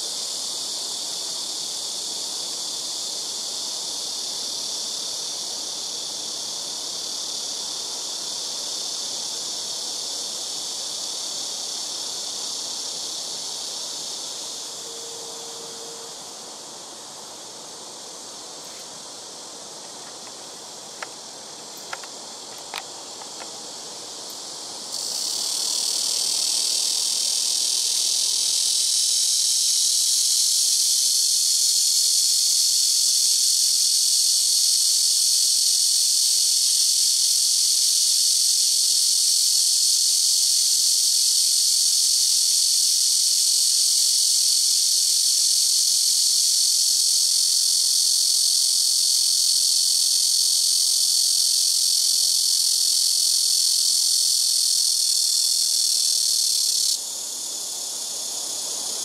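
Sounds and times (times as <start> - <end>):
cicada shrill buzz: 0.0 - 59.0.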